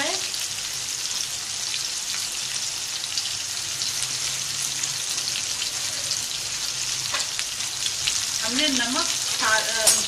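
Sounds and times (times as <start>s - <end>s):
oil sizzling and crackling: 0.0s - 10.0s.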